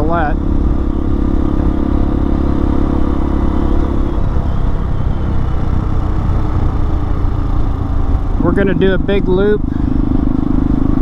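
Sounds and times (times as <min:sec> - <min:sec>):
motorcycle engine running: 0:00.0 - 0:11.0
steady low rumble: 0:00.0 - 0:11.0.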